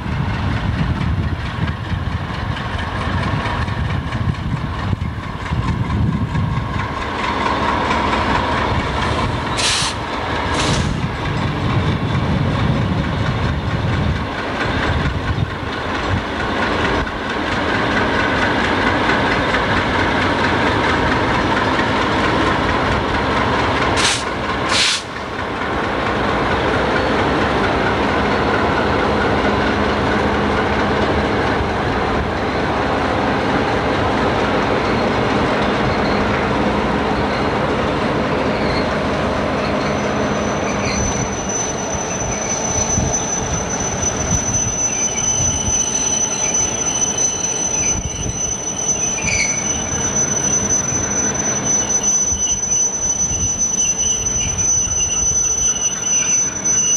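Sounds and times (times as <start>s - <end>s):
diesel locomotive engines rumbling: 0.0s - 56.9s.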